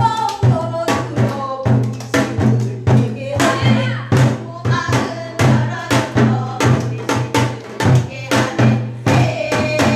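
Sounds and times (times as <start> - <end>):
women singing: 0.0 - 9.9.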